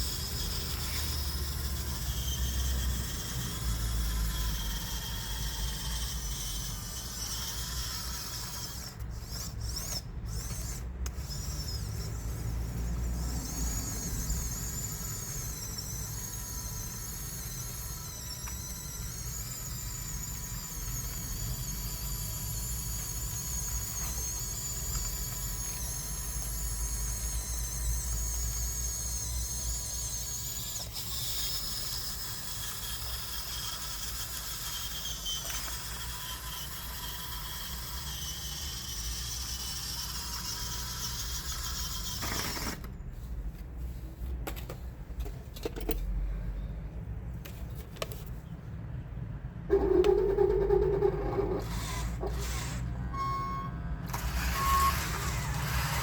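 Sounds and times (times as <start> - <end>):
electric motors whining: 0.0 - 43.0, 49.7 - 56.0.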